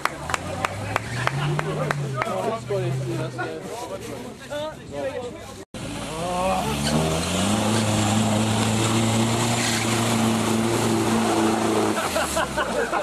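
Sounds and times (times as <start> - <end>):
off-road engine revving: 0.0 - 4.0, 5.8 - 13.0.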